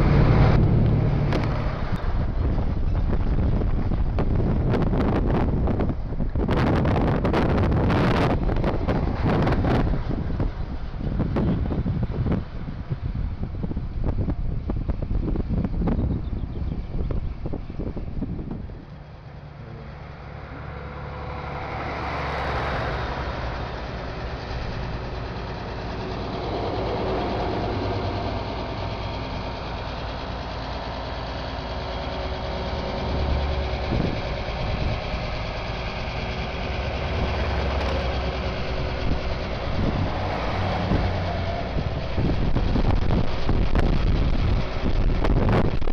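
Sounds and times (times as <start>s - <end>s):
trucks driving past: 0.0s - 45.9s.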